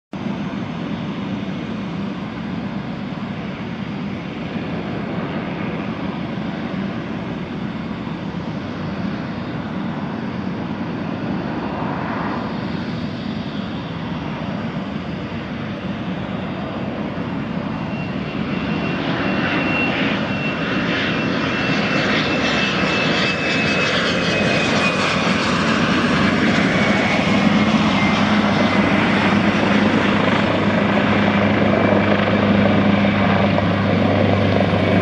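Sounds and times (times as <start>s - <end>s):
helicopter rotor and turbine: 0.1s - 35.0s.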